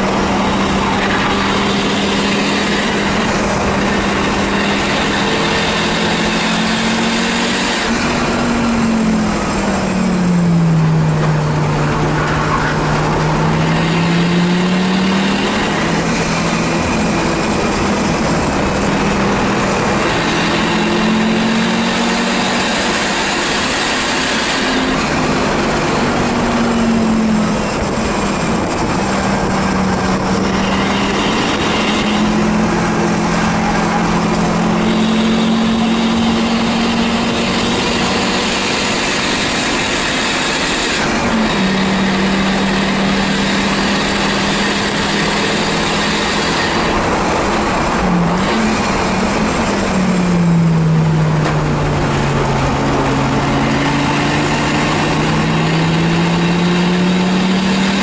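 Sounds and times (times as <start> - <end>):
race car engine running hard: 0.0 - 58.0
road and wind noise: 0.0 - 58.0.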